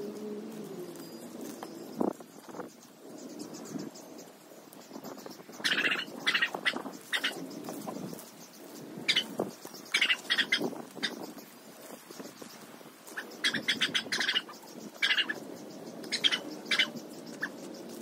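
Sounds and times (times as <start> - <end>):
birds chirping: 0.0 - 18.0
dry grass rustling: 0.0 - 18.0.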